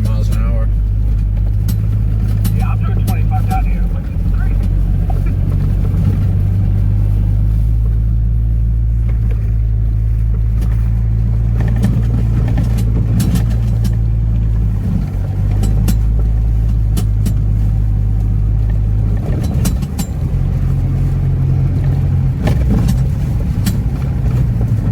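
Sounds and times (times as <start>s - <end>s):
knocks and rattles: 0.0s - 6.7s, 10.3s - 24.9s
truck engine droning: 0.0s - 24.9s.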